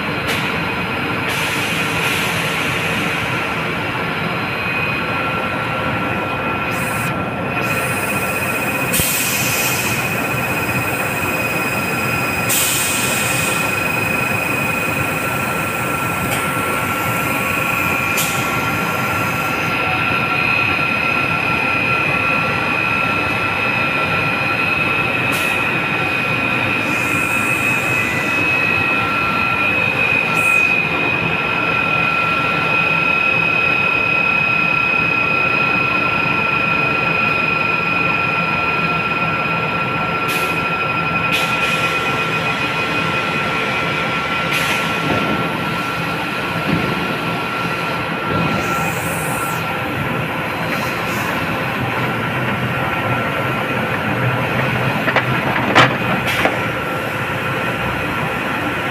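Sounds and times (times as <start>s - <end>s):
centrifuge whirring with high whine: 0.1s - 58.9s.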